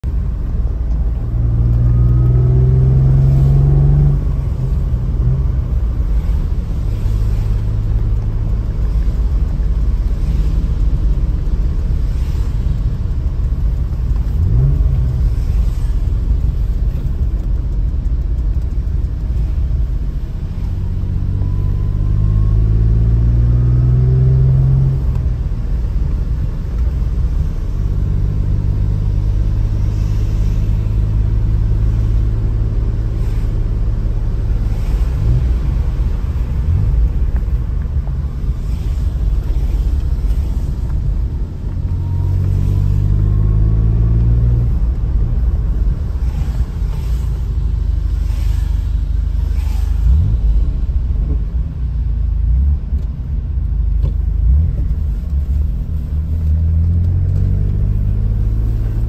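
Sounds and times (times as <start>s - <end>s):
car engine revving while driving: 0.1s - 59.0s.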